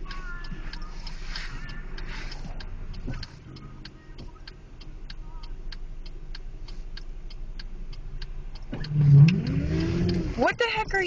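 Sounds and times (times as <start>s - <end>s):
car engine hum: 0.0s - 11.0s
turn signal ticking: 0.0s - 11.0s.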